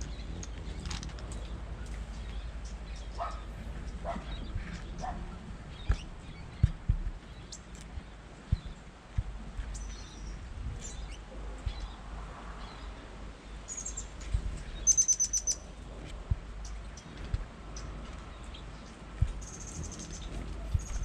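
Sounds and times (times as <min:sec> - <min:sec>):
songbirds calling: 0:00.0 - 0:21.0.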